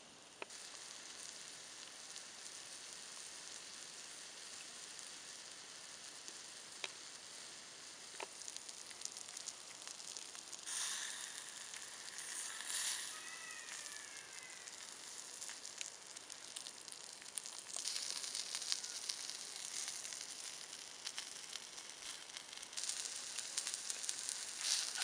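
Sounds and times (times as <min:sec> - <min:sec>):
food sizzling on salt block: 0:00.2 - 0:25.0.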